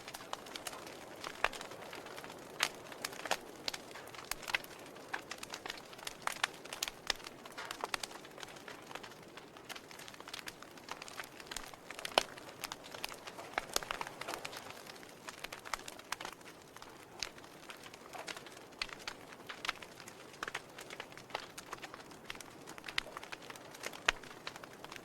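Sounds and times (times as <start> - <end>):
logs crackling and popping: 0.0 - 25.0
soft fire hiss: 0.0 - 25.0.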